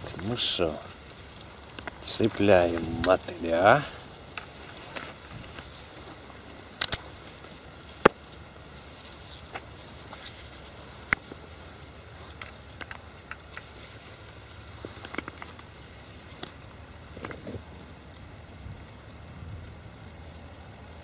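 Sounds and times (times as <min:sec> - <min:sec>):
soft handling clicks and rustles: 0:00.0 - 0:21.0
steady low rumble: 0:00.0 - 0:21.0.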